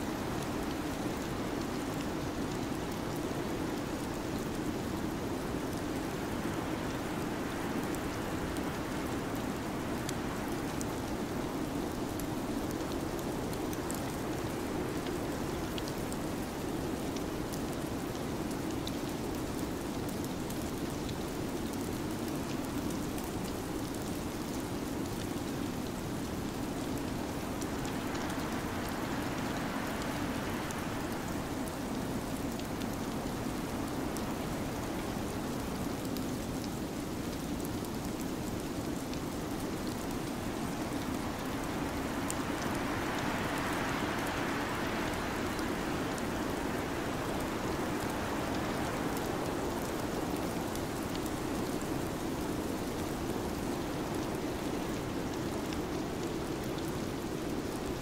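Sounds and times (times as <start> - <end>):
rain-like storm hiss: 0.0 - 58.0.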